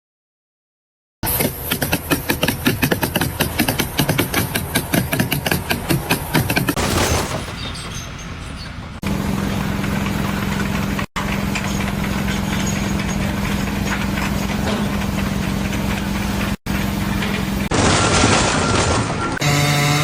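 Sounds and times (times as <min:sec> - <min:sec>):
engine running with low hum: 0:01.3 - 0:17.8.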